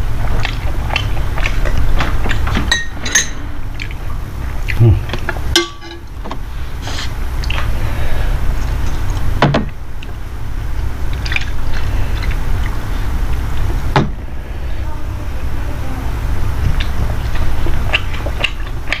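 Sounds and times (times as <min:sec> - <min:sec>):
person chewing food: 0:00.0 - 0:13.9, 0:16.6 - 0:19.0
steady low hum: 0:00.0 - 0:19.0.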